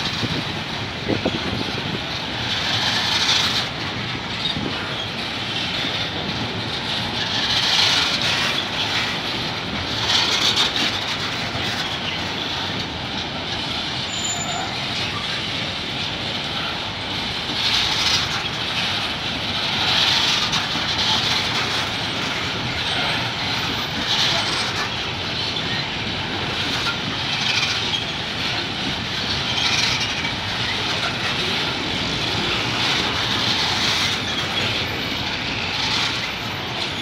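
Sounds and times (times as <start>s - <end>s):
train wagons rumbling past: 0.0s - 37.0s.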